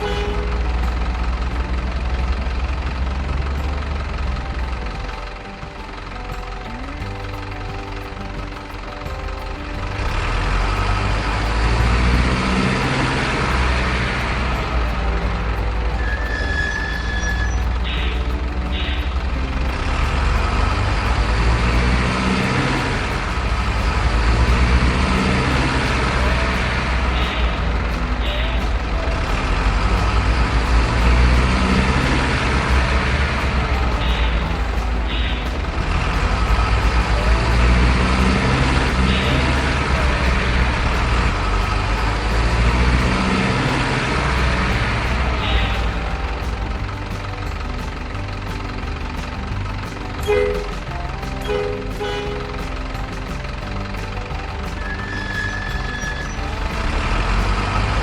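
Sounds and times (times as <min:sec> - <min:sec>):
model truck engine rumble: 0:00.0 - 0:58.0.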